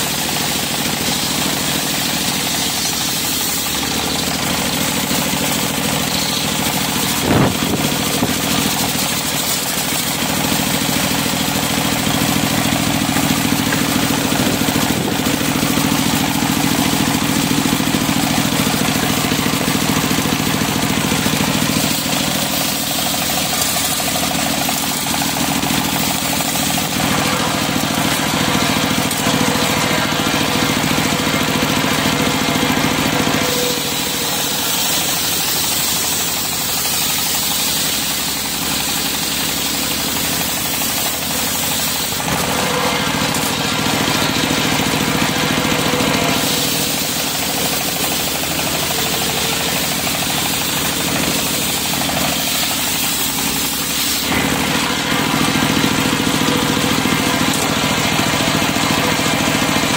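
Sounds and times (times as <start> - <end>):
circular saw cutting wood: 0.0 - 59.9
engine drone: 0.0 - 59.9.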